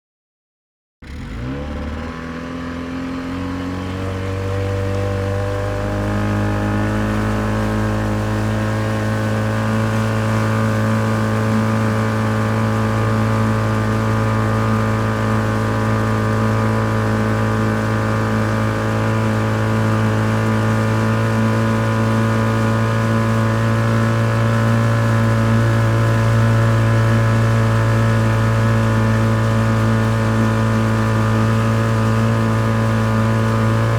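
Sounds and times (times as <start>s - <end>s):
small boat motor running: 1.0s - 33.9s.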